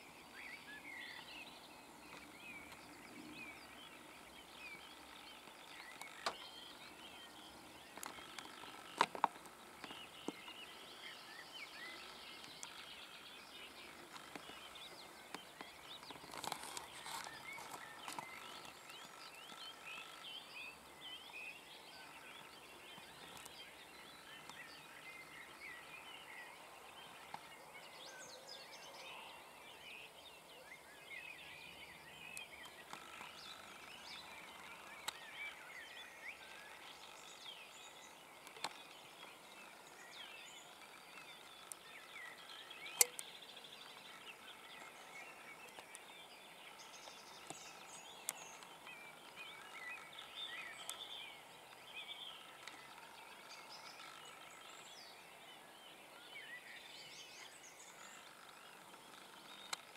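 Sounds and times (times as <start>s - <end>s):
small birds chirping and singing: 0.0s - 59.9s.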